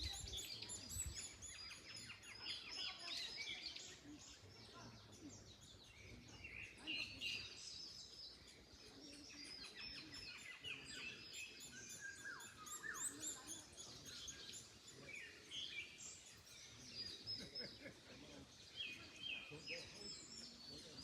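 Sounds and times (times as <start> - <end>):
small birds chirping: 0.0 - 21.0
wind in trees: 0.0 - 21.0.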